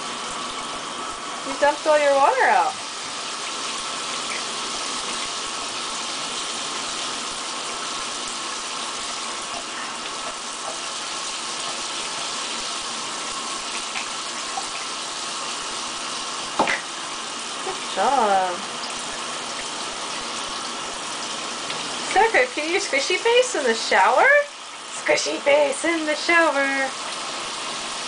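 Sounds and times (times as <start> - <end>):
shower spray splashing: 0.0 - 28.0.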